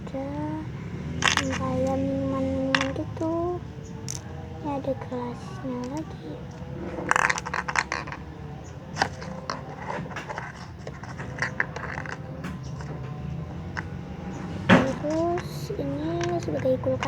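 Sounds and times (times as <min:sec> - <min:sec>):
plastic toy pieces clicking: 0:01.2 - 0:13.0, 0:14.6 - 0:17.0.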